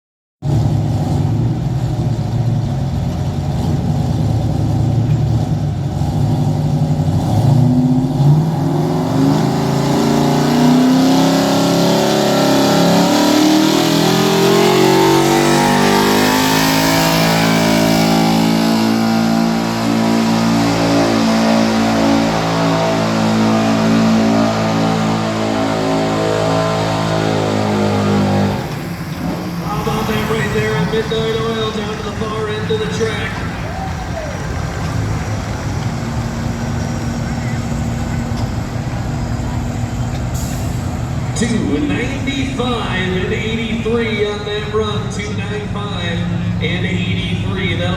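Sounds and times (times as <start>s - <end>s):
truck engine at full throttle: 0.4s - 47.9s.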